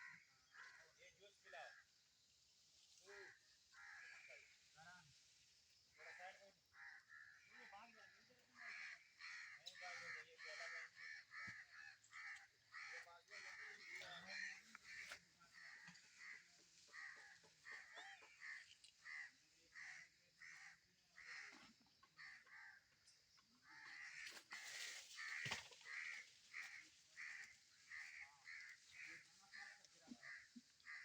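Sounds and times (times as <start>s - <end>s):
harsh caw-like animal calls: 3.1s - 4.6s, 6.0s - 23.0s, 23.6s - 31.0s.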